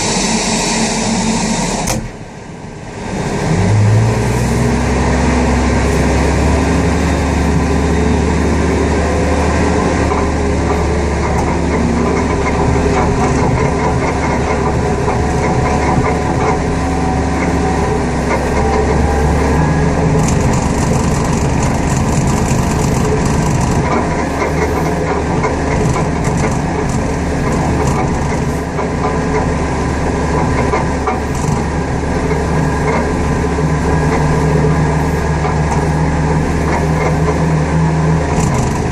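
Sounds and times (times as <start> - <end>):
heavy engine humming: 0.0 - 38.9.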